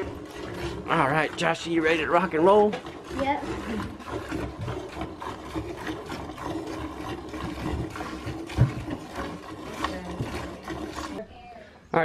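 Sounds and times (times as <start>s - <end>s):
milk squirting into metal pail: 0.0s - 11.3s.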